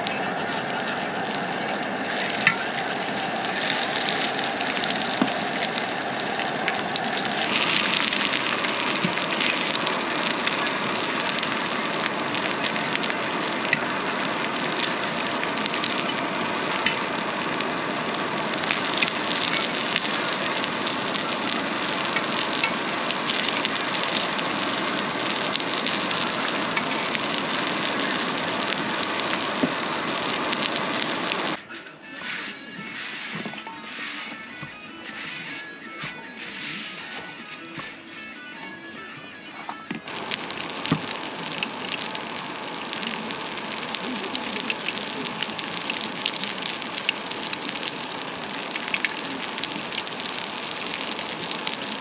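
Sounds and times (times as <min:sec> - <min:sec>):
oil popping: 0:00.0 - 0:31.6, 0:40.0 - 0:52.0
skewers frying in oil: 0:00.0 - 0:31.6, 0:40.1 - 0:52.0.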